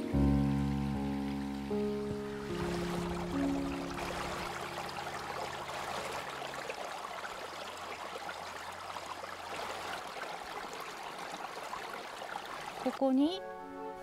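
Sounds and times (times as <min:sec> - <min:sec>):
water babbling over pebbles: 0:00.4 - 0:13.2.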